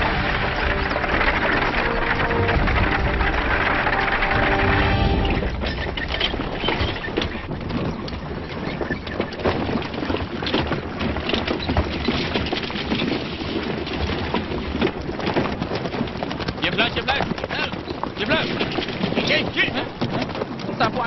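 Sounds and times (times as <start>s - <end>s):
footsteps on earth road: 0.0s - 21.0s
horse hooves on earth road: 0.0s - 21.0s.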